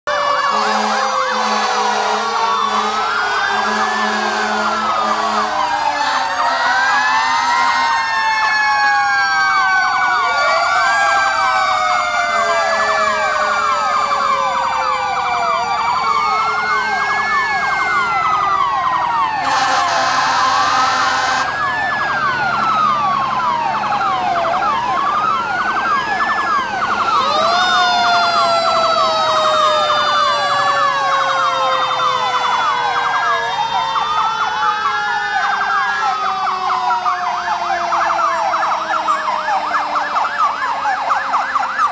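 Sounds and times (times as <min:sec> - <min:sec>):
fire engine sirens wailing: 0:00.0 - 0:41.9.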